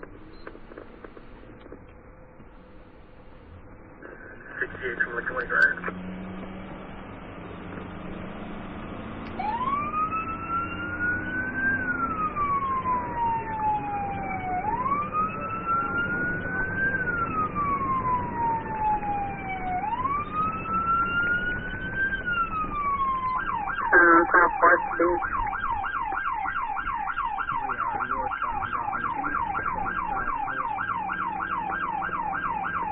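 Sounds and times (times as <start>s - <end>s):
road and engine noise: 0.0s - 32.9s
police siren wailing: 3.6s - 32.9s.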